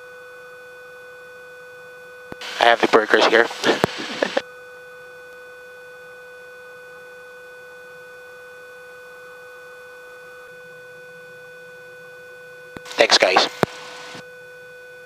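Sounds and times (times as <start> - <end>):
steady electrical whine: 0.4 - 15.0.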